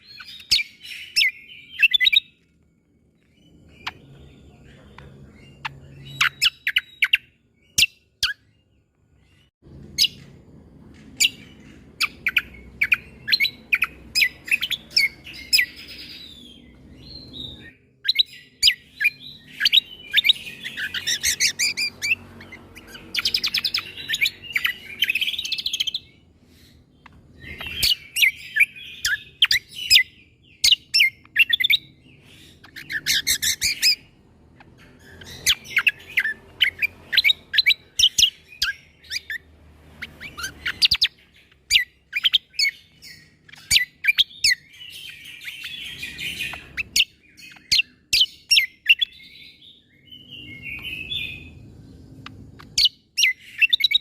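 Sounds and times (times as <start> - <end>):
bird singing staccato notes: 3.3 - 54.0.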